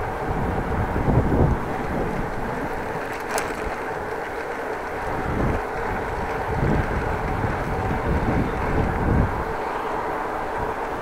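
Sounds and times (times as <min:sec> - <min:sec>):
bicycle tyre and road noise: 0:00.0 - 0:11.0
wind buffeting microphone: 0:00.0 - 0:11.0.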